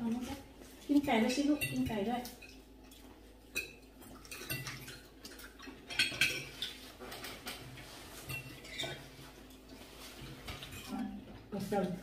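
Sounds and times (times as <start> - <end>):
cutlery clinking on plates: 1.0 - 11.2.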